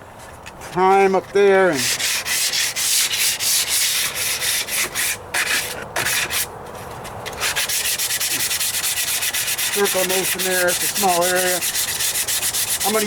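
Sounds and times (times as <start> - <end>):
sandpaper rasping strokes: 1.7 - 6.5, 7.3 - 13.0.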